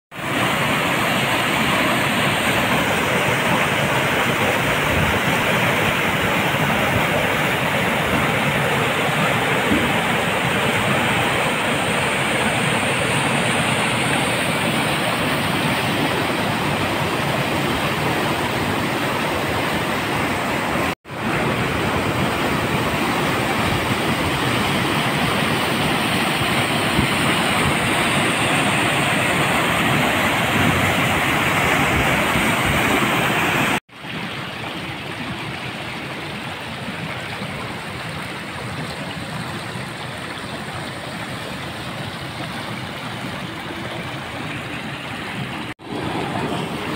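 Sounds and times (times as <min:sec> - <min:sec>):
river rushing over rocks: 0:00.2 - 0:46.9.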